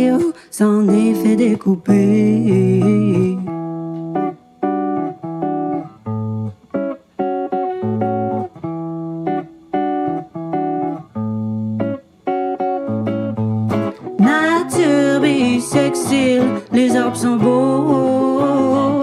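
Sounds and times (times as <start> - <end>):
choppy guitar chord stabs: 0.0 - 19.0.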